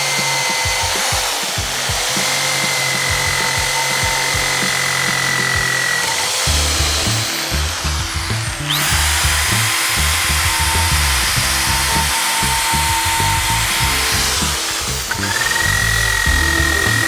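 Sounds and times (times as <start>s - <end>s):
background music with beat: 0.0s - 17.0s
drill wire brush scouring metal: 0.0s - 17.0s.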